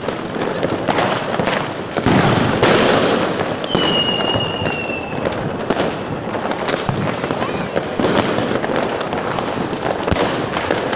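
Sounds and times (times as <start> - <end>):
fireworks crackling and banging: 0.0 - 10.9.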